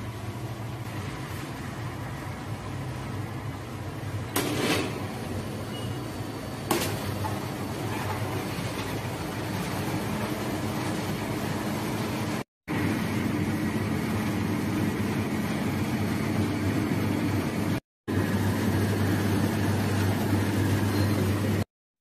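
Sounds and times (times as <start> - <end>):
oven fans and burner whirring: 0.0 - 21.7.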